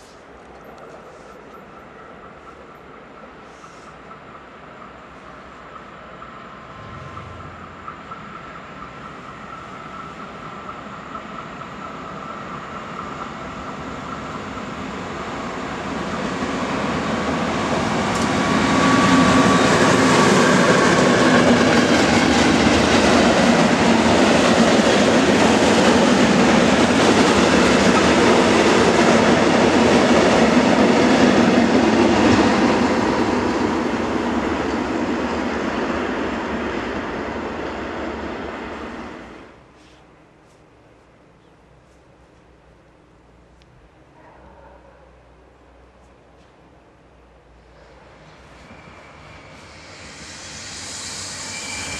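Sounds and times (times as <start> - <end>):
diesel locomotive passing: 0.3 - 39.7, 45.3 - 51.9.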